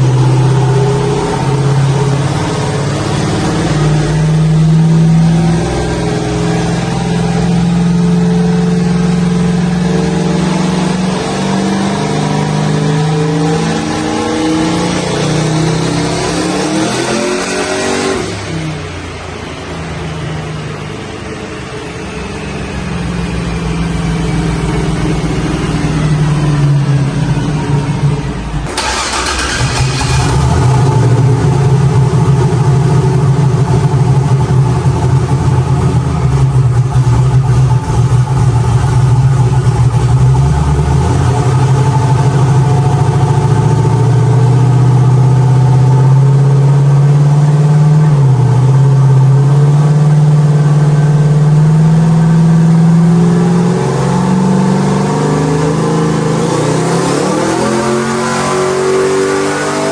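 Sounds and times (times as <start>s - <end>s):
car engine revving on dyno: 0.0s - 28.0s, 28.6s - 59.9s.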